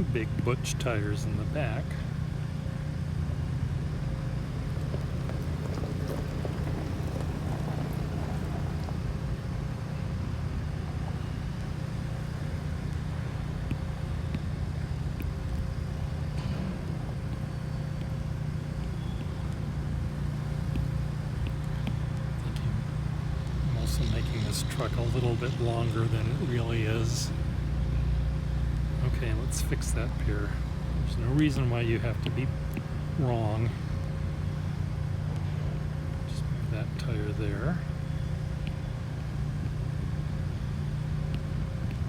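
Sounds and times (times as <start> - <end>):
faint constant hum: 0.0 - 42.0
truck engines and traffic rumble: 0.0 - 42.0.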